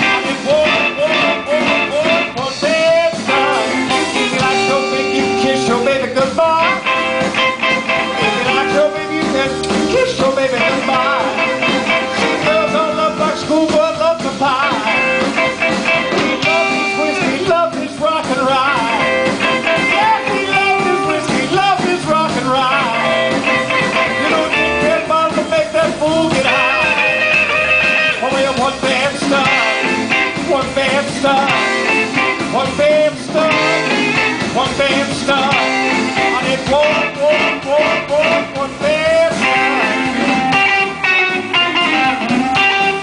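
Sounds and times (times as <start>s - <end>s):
bass guitar: 0.0s - 43.0s
drums: 0.0s - 43.0s
electric guitar: 0.0s - 43.0s.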